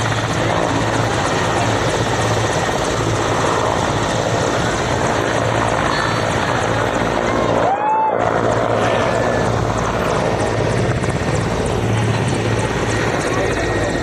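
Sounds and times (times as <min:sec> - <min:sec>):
helicopter rotor and turbine: 0:00.0 - 0:14.0.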